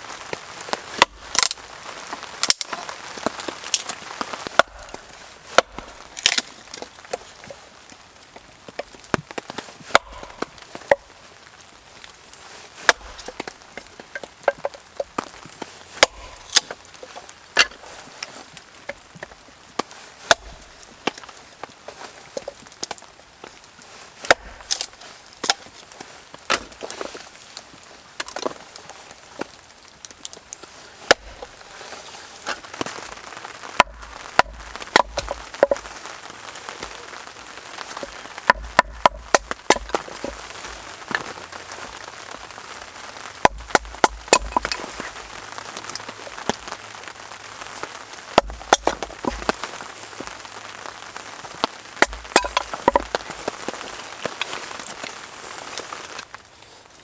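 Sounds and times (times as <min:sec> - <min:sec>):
steady rain: 0:00.0 - 0:57.0
axe splitting wet firewood: 0:00.2 - 0:07.6, 0:08.4 - 0:11.2, 0:12.0 - 0:42.1, 0:43.2 - 0:46.8, 0:47.8 - 0:50.4, 0:51.4 - 0:56.2.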